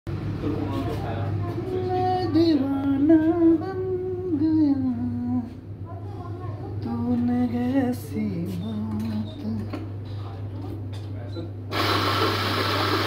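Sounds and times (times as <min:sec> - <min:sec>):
steady low hum: 0:00.1 - 0:11.8.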